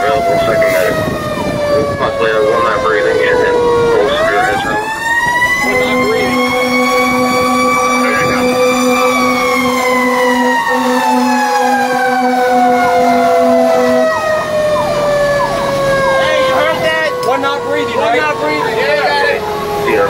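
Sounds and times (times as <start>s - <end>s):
low horn blasts: 0.0s - 20.0s
mechanical siren winding down: 0.0s - 20.0s.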